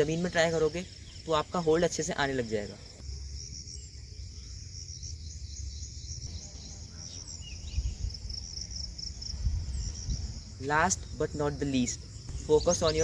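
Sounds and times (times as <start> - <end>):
faint bird chirps: 0.0 - 13.0
insects trilling: 0.0 - 13.0.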